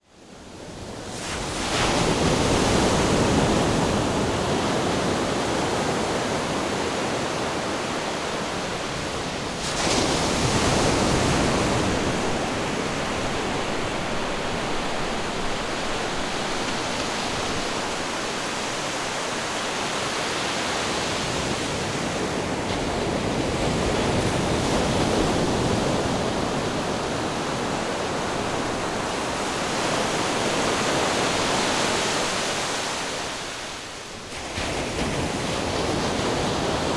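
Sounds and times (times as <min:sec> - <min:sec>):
ocean waves rushing: 0:01.0 - 0:36.9.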